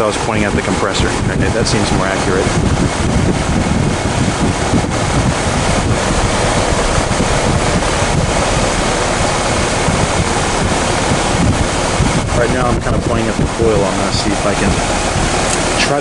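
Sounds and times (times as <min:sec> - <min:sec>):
heat pump fan and compressor running: 0:00.0 - 0:16.0
wind buffeting microphone: 0:00.0 - 0:16.0.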